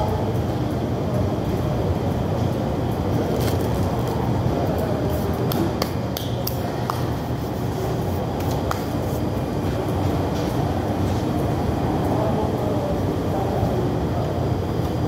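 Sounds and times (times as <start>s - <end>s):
restaurant background rumble: 0.0s - 15.0s.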